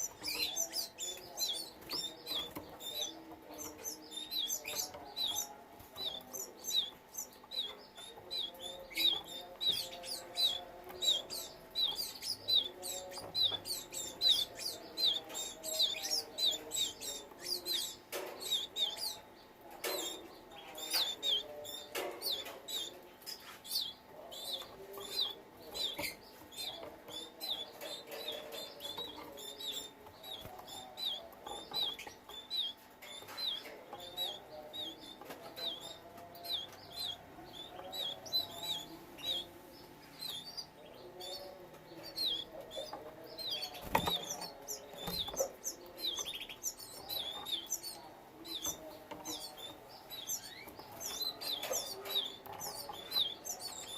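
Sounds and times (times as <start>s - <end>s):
canaries chirping: 0.0s - 53.9s.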